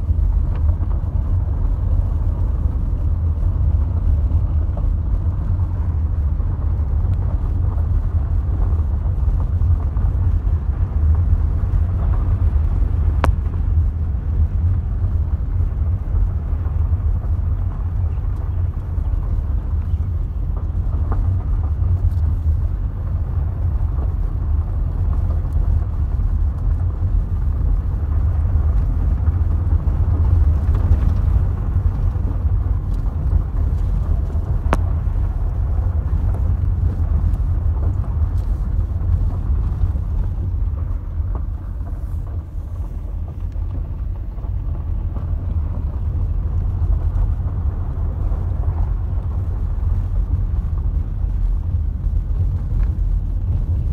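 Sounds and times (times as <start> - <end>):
car driving on gravel road: 0.0 - 53.9.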